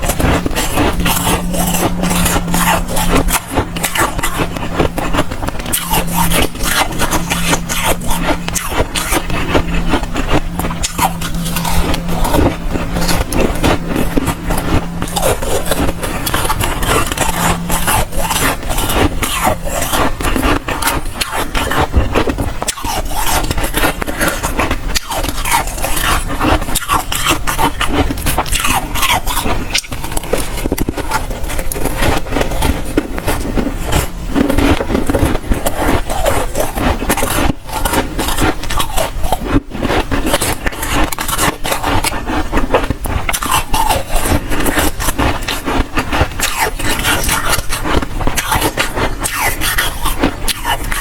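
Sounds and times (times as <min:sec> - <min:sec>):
ice crunching while chewed: 0:00.0 - 0:51.0.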